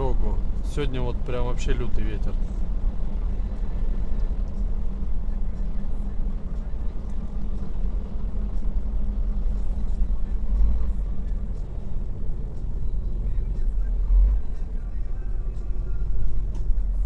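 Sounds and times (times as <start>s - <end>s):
road noise: 0.0s - 17.0s
truck engine droning: 0.0s - 17.0s.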